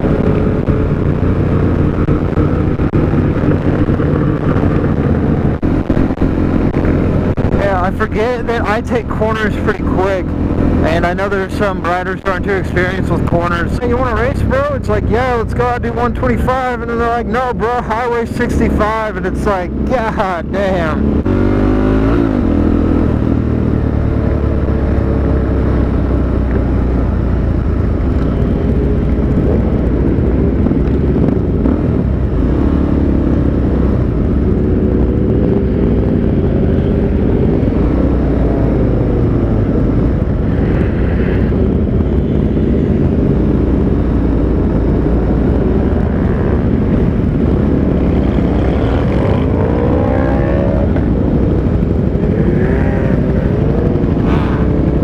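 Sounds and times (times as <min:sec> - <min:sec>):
motorcycle engine running: 0:00.0 - 0:55.0
other motorcycles: 0:00.0 - 0:55.0
wind noise on microphone: 0:00.0 - 0:55.0.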